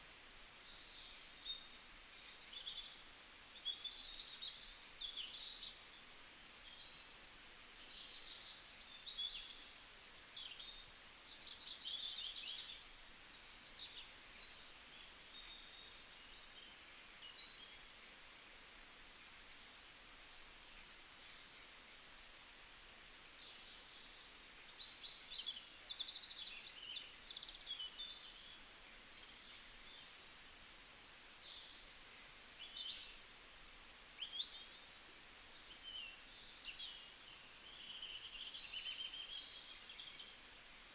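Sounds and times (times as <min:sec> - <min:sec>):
faint outdoor hiss: 0:00.0 - 0:40.9.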